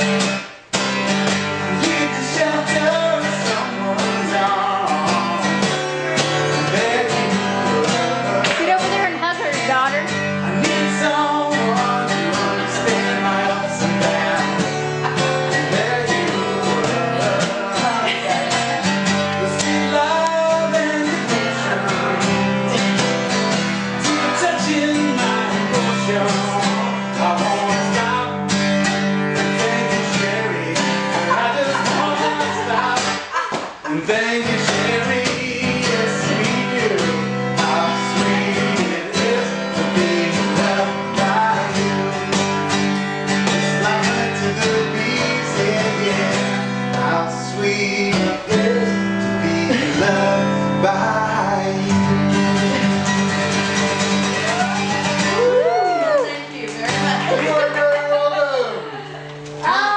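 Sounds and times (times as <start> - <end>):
acoustic guitar strumming: 0.0 - 59.9
person singing: 1.6 - 42.6, 43.5 - 53.4, 54.1 - 59.9.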